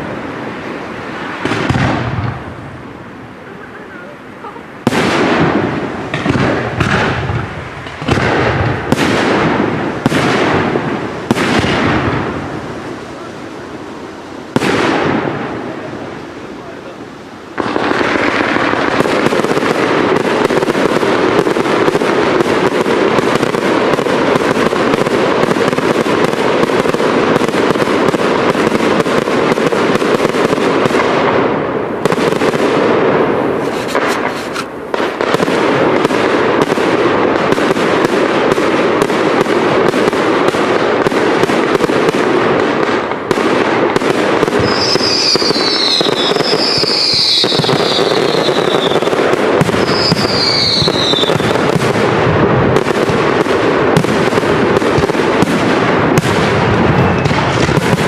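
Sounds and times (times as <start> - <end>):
fireworks bangs and crackling: 0.0 - 58.0
fireworks whistling: 0.0 - 58.0.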